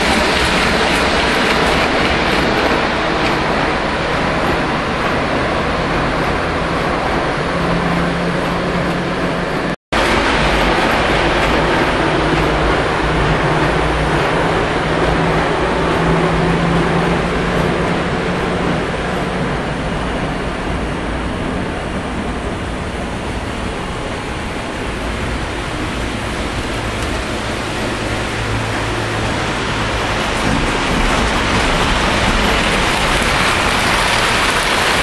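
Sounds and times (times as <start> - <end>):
model trains rumbling on track: 0.0 - 35.0.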